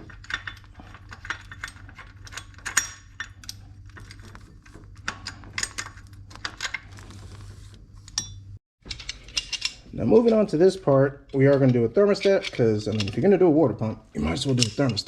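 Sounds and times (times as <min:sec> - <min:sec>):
tools and metal parts clinking: 0:00.0 - 0:07.1, 0:08.0 - 0:15.0
steady low hum: 0:00.0 - 0:15.0.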